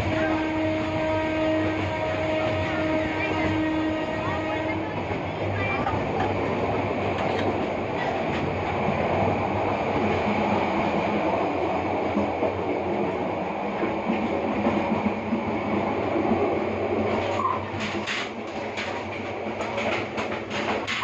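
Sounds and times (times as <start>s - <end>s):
train rumbling along track: 0.0s - 21.0s
train wheel clatter: 0.0s - 21.0s.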